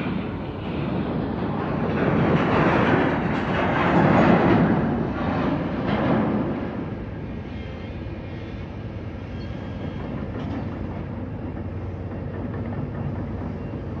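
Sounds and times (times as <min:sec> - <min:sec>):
excavator low rumble: 0:00.0 - 0:14.0.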